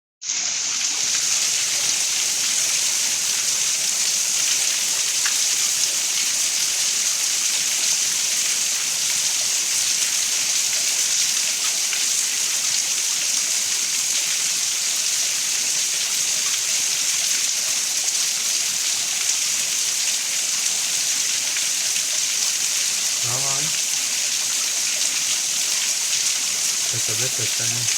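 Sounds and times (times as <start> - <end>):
rain pouring: 0.3 - 27.9.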